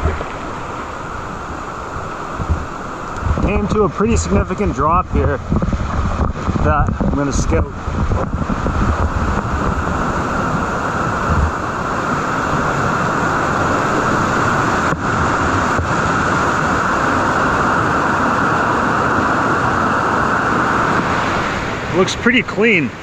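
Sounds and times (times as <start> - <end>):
river rapids roaring: 0.0 - 23.0.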